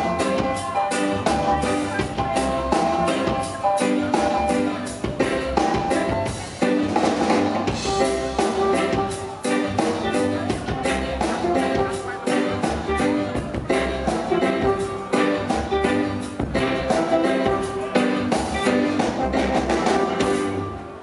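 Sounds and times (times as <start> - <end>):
drum kit beat: 0.0 - 21.0
live reggae band playing: 0.0 - 21.0.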